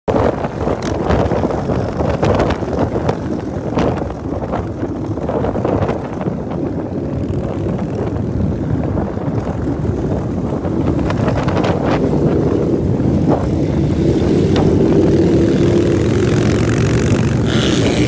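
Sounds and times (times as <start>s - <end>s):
motorcycle engines: 0.1s - 18.0s
wind buffeting microphone: 0.1s - 18.0s.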